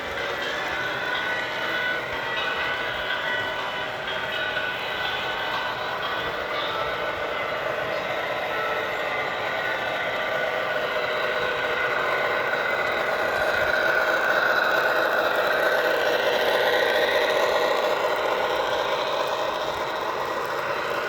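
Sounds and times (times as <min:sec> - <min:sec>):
train running past: 0:00.0 - 0:21.0.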